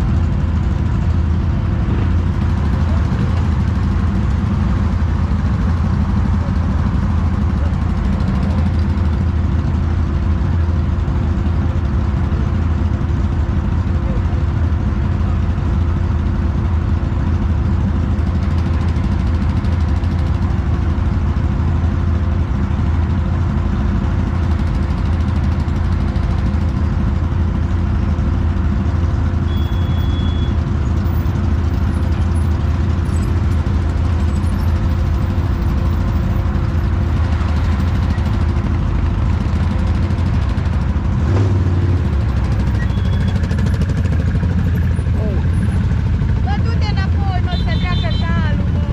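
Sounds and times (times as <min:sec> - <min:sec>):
off-road vehicle engine droning: 0:00.0 - 0:48.9.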